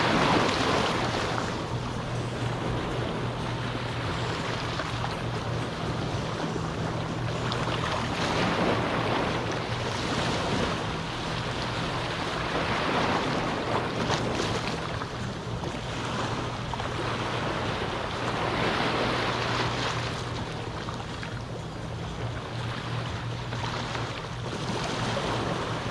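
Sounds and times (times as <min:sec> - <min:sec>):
calm sea waves washing ashore: 0:00.0 - 0:25.9
steady low hum: 0:00.0 - 0:25.9.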